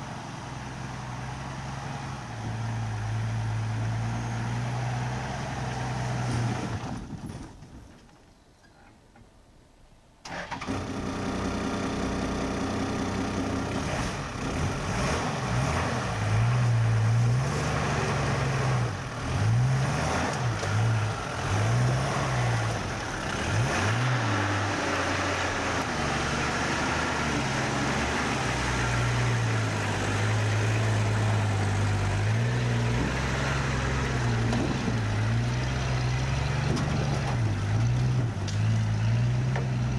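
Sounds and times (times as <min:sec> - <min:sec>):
vehicle engine revving uphill: 0:00.0 - 0:07.3, 0:10.3 - 0:39.9.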